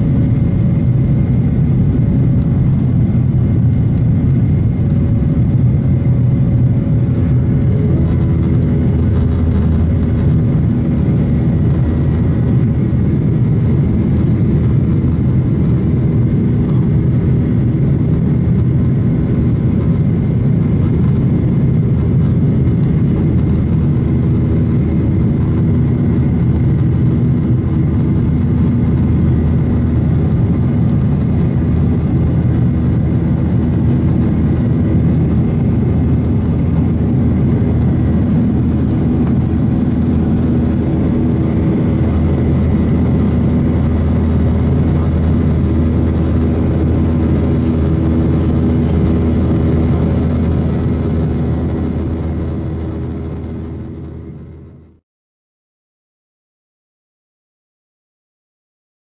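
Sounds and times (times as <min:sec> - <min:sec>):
faint steady whine: 0:00.0 - 0:55.0
jet engine low rumble: 0:00.0 - 0:55.0.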